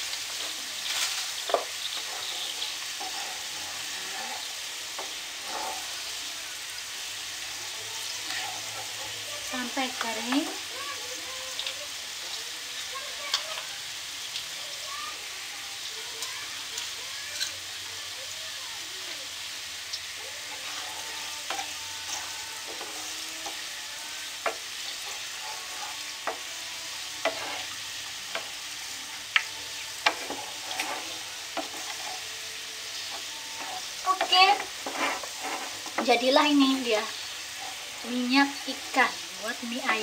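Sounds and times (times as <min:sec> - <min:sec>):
garlic sizzling in oil: 0:00.0 - 0:40.0.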